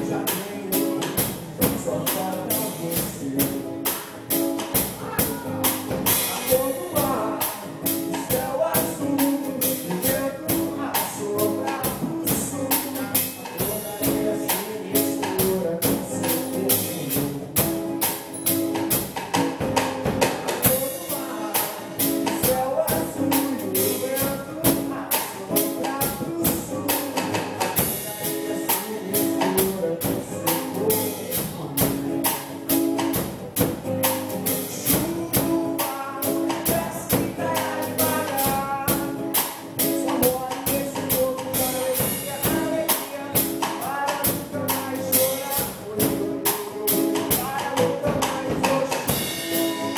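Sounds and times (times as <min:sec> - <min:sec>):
fast percussion beat: 0:00.0 - 0:49.9.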